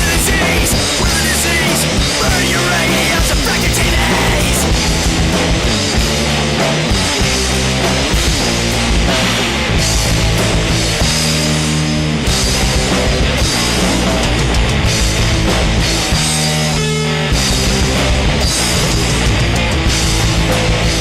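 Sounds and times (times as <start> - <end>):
punk rock band playing: 0.0 - 21.0.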